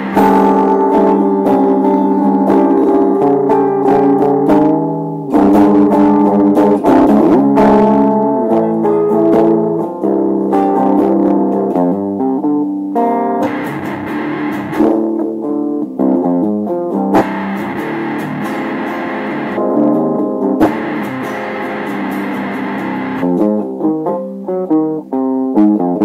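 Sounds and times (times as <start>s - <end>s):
harsh distorted guitar texture: 0.0s - 12.0s, 13.1s - 15.4s, 16.2s - 23.7s
plucked guitar notes: 0.0s - 26.0s.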